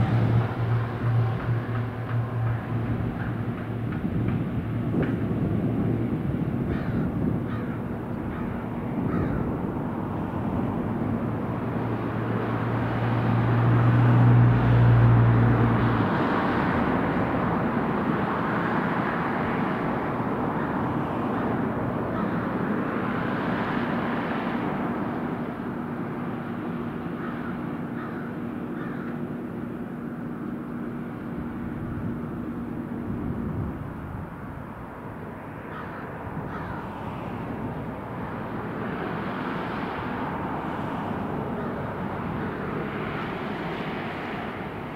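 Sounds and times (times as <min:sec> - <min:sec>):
plane engine and propeller: 0:00.0 - 0:44.9.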